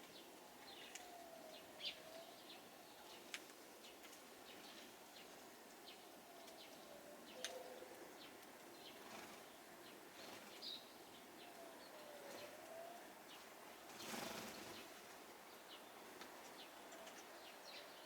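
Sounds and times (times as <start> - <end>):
small birds chirping: 0.0 - 18.0
soft steady hiss: 0.0 - 18.0.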